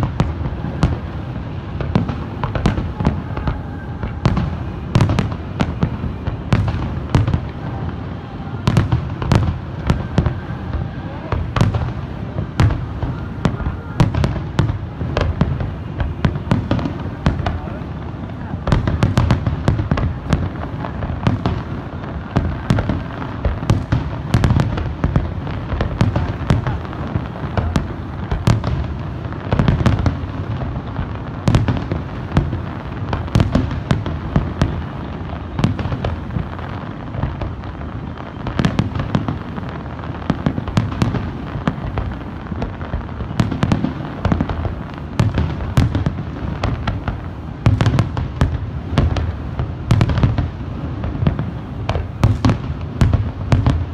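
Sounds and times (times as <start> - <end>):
fireworks sharp cracks: 0.0 - 53.9
low rumble of fireworks booms: 0.0 - 53.9.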